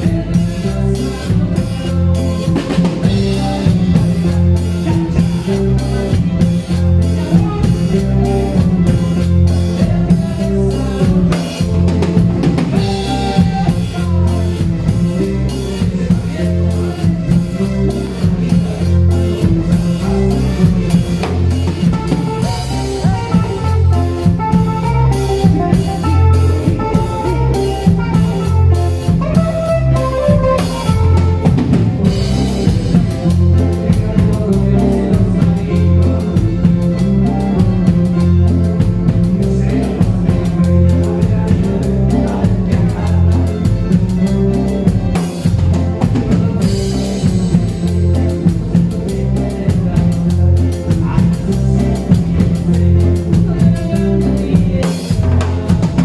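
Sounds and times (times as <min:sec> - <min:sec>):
bass line: 0:00.0 - 0:56.0
drum kit beat: 0:00.0 - 0:56.0
melodic lead: 0:00.0 - 0:56.0.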